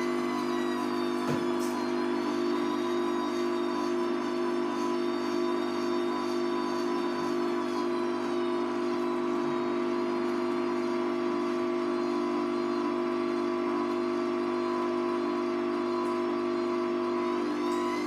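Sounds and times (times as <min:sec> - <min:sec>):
washing machine motor humming: 0:00.0 - 0:18.0.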